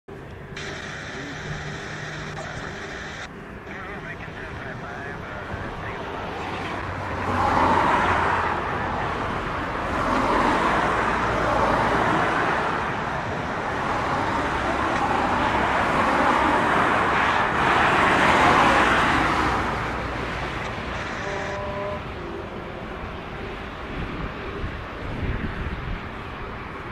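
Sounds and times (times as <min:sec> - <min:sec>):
airliner jet engine rushing: 0:00.6 - 0:26.9.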